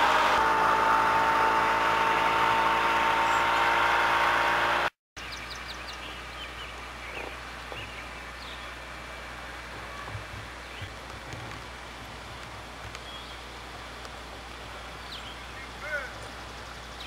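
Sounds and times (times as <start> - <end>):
outboard motor droning: 0.0 - 17.0
birds chirping: 2.2 - 4.5, 5.2 - 17.0.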